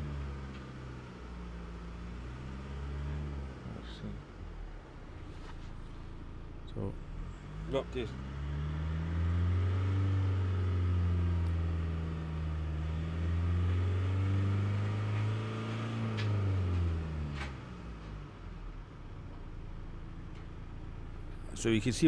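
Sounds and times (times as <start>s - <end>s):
diesel engine revving: 0.0s - 18.8s.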